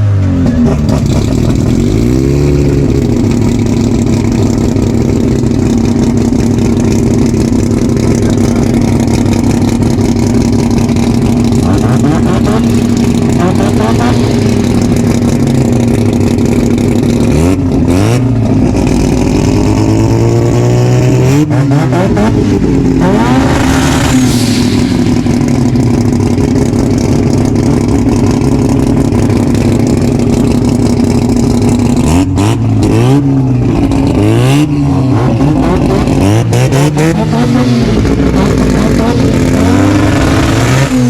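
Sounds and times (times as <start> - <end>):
race car engine revving: 0.3 - 41.0.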